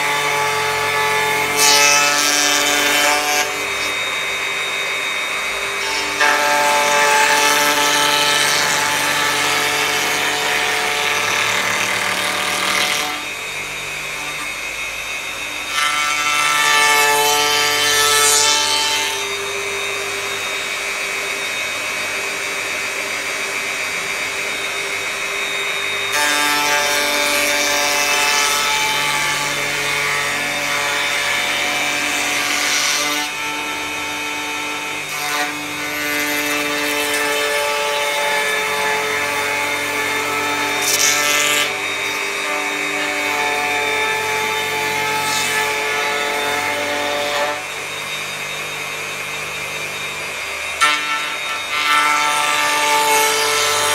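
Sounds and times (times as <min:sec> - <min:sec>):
electric planer cutting wood: 0:00.0 - 0:53.9.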